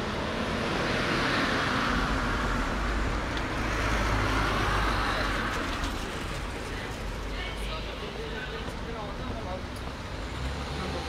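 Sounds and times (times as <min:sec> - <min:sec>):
cars passing: 0:00.0 - 0:11.0
low traffic rumble: 0:00.0 - 0:11.0.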